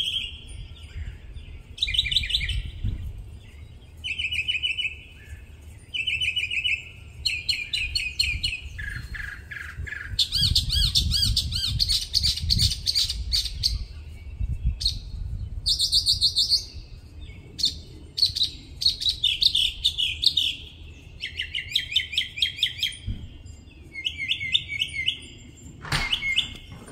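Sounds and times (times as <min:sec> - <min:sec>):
mockingbird singing: 0:03.5 - 0:26.9.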